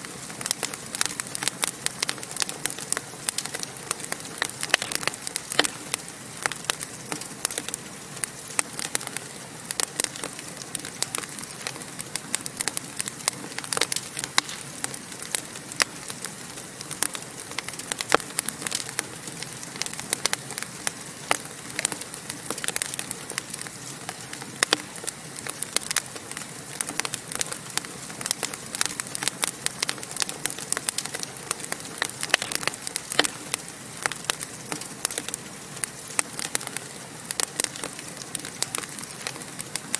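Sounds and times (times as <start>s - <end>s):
soft hiss of fire: 0.0s - 39.9s
wood fire crackling and popping: 0.0s - 39.9s.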